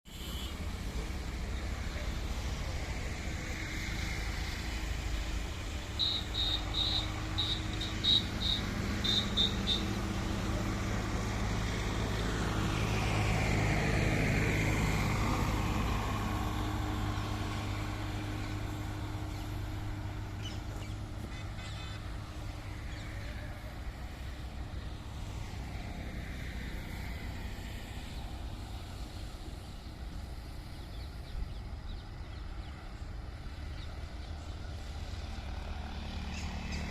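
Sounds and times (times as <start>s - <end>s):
train passing by: 0.1s - 21.4s, 22.0s - 36.9s.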